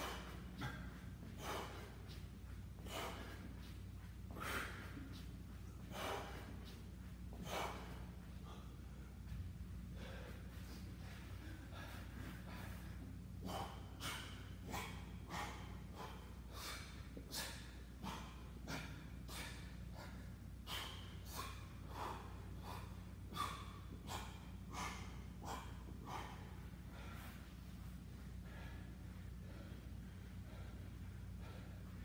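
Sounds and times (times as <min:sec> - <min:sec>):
man breathing hard: 0:00.0 - 0:32.0.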